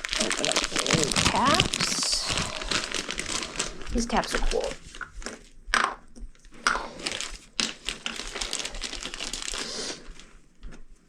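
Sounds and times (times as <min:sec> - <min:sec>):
plastic packaging crinkling: 0:00.0 - 0:05.6, 0:06.8 - 0:10.4.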